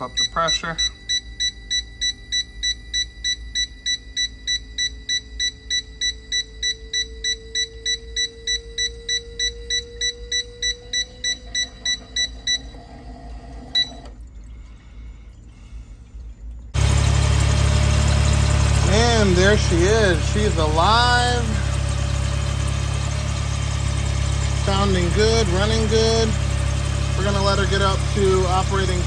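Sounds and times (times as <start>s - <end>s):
rapid beeping: 0.0s - 12.9s, 16.8s - 29.0s
pump hum rising in pitch: 0.0s - 29.0s.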